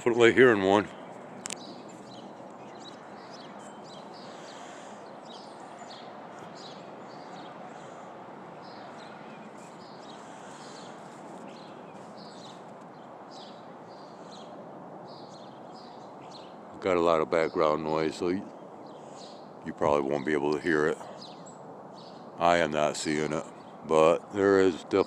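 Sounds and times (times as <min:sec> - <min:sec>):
faint aircraft passing overhead: 0:00.0 - 0:25.0
small birds chirping: 0:00.0 - 0:25.0.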